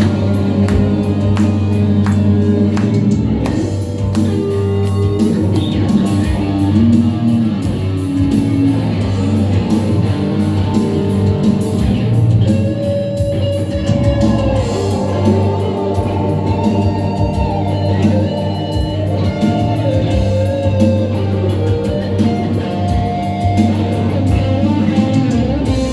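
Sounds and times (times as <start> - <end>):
busy drums: 0.0 - 25.9
electric guitar: 0.0 - 25.9
heavy rock band playing: 0.0 - 25.9.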